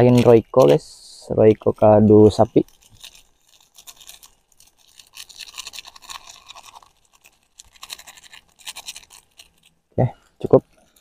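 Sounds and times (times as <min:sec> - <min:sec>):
sachet crinkling and rustling: 0:00.0 - 0:11.0.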